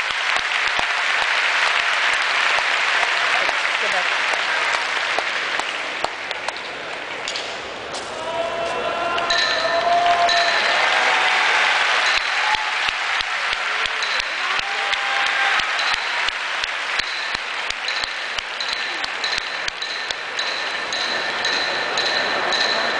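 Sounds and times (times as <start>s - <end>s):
crowd applauding: 0.0s - 7.3s, 9.2s - 22.9s.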